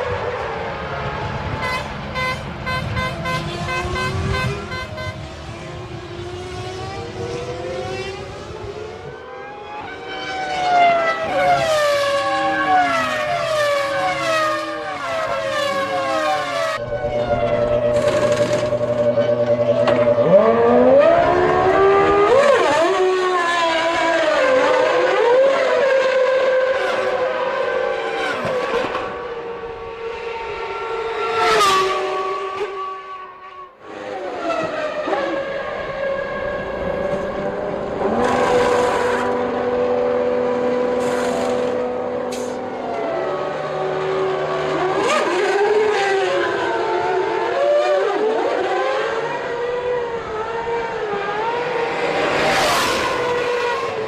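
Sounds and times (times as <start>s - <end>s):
racing car engines passing: 0.0s - 54.0s.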